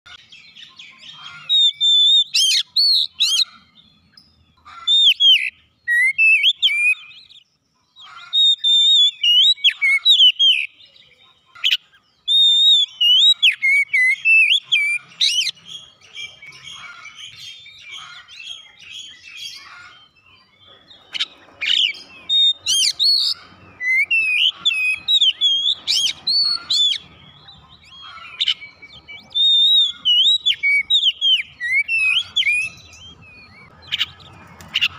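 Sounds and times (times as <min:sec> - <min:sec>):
bird singing whistled phrases: 0:00.4 - 0:04.3, 0:04.9 - 0:07.5, 0:08.3 - 0:34.9.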